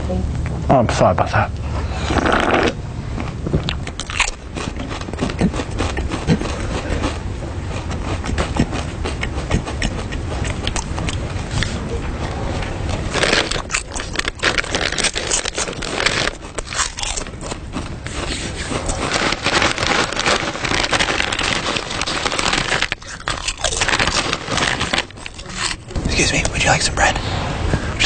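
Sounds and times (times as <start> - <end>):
crunchy food being chewed: 2.0 - 26.8.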